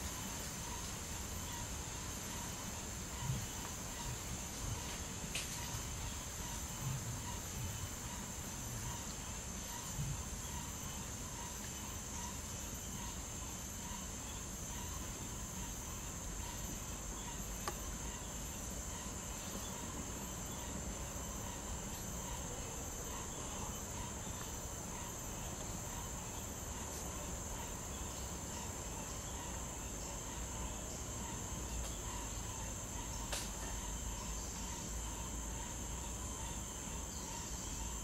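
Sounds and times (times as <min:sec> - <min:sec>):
jungle insects droning: 0:00.0 - 0:38.0.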